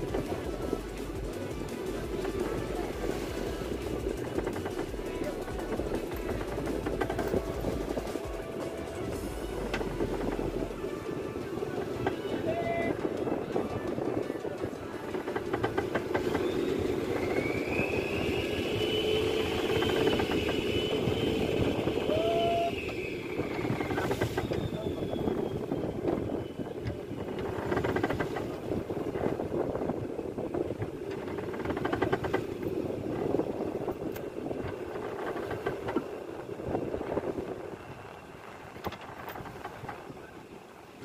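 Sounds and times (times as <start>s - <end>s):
boat engine running: 0.0s - 41.0s
sea noise: 0.0s - 41.0s
wind: 0.0s - 41.0s.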